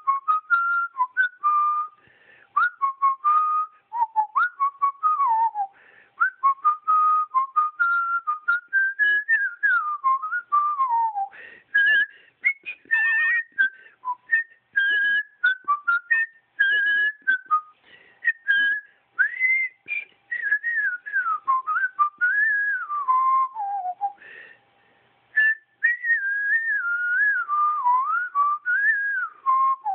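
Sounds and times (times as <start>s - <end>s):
person whistling a tune: 0.0s - 24.6s, 25.3s - 29.9s.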